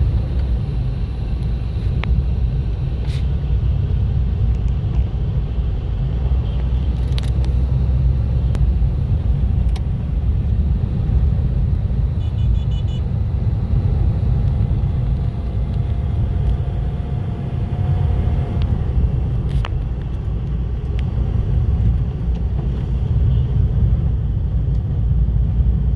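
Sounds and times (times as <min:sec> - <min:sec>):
low rumble of road traffic: 0:00.0 - 0:25.9.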